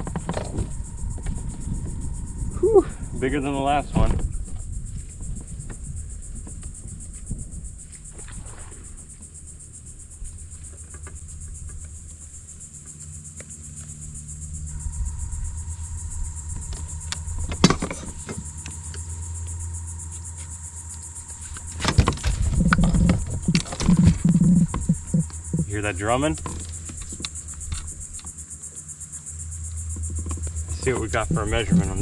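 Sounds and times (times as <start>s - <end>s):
fish drumming hum: 0.0s - 32.0s
high insect buzz: 0.0s - 32.0s.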